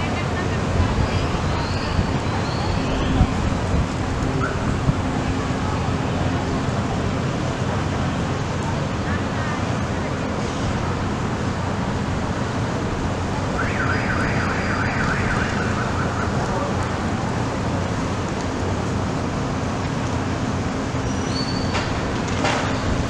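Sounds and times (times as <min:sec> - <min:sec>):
traffic and street noise: 0:00.0 - 0:23.0.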